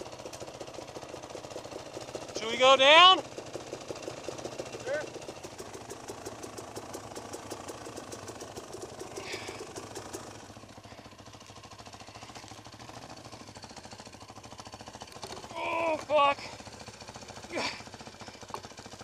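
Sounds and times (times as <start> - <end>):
dirt bike engine idling: 0.0 - 19.0.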